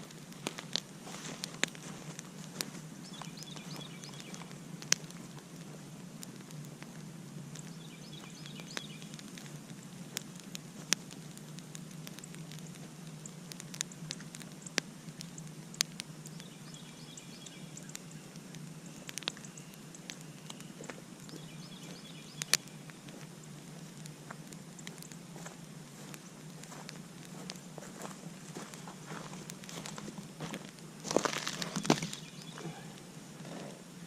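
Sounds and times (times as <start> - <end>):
burning wood popping: 0.0 - 34.0
campfire crackling: 0.0 - 34.0
steady low rumble: 0.0 - 34.0.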